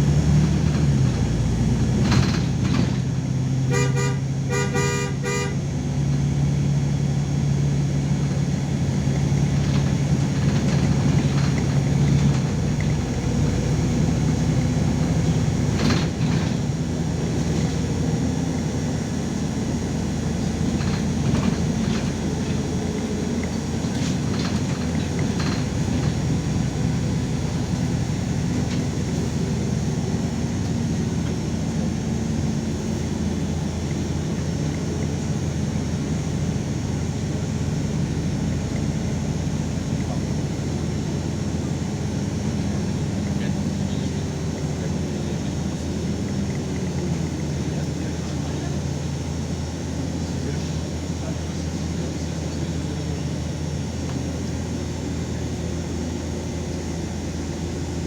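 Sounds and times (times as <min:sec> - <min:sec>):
light rattles from bus body: 0:00.0 - 0:57.9
bus engine and drivetrain noise: 0:00.0 - 0:58.0.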